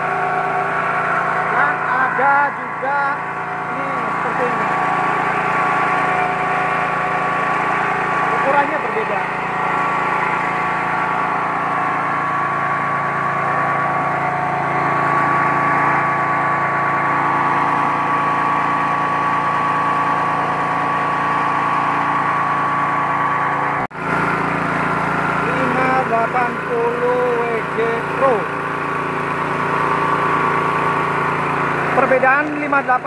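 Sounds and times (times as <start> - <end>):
rice milling machine droning: 0.0 - 33.0.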